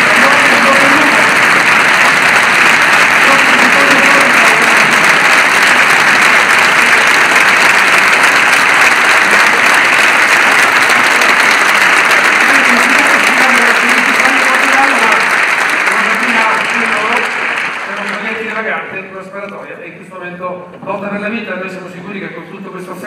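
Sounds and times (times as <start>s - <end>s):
large audience applauding: 0.0s - 18.9s.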